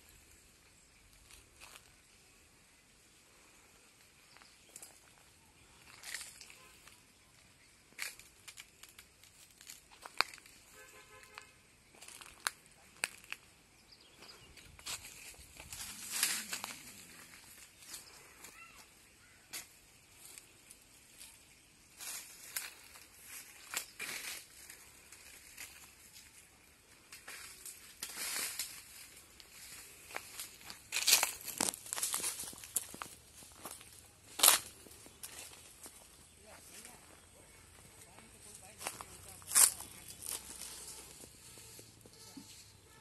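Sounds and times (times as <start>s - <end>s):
footsteps crunching on dry leaves: 1.1s - 1.9s, 4.3s - 7.0s, 7.9s - 13.4s, 14.1s - 18.9s, 19.6s - 42.7s.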